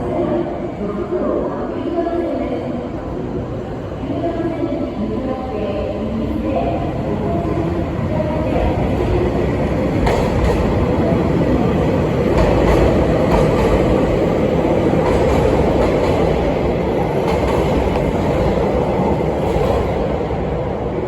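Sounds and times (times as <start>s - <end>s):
train wheels rumbling on rail: 2.7s - 21.0s.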